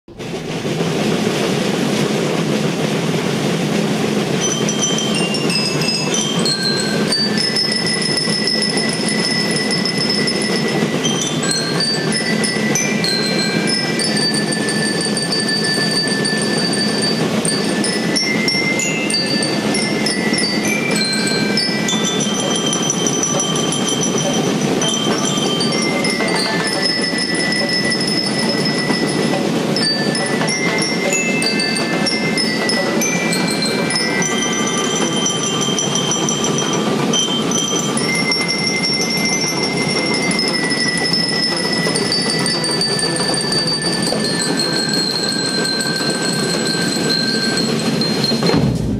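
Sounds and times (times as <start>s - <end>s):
marching drum beat: 0.1s - 48.9s
bell lyres melody: 2.6s - 48.9s.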